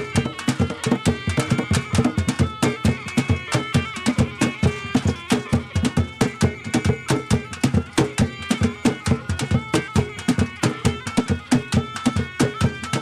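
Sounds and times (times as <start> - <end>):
hand drums beating: 0.0 - 13.0
held melody line: 0.0 - 13.0.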